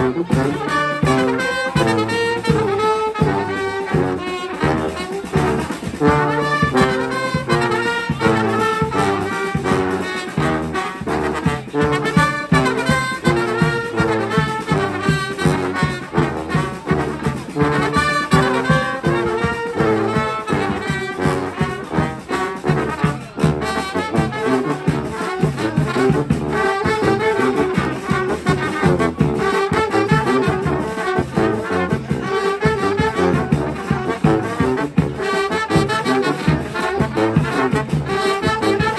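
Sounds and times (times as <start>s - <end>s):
brass street band playing: 0.0s - 38.9s
steady drum beat: 0.0s - 38.9s.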